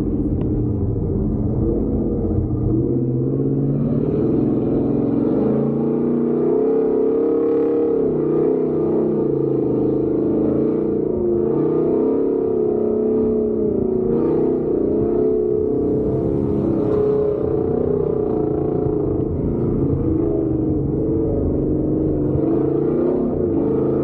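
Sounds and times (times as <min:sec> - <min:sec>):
vehicle engine revving: 0:00.0 - 0:24.0.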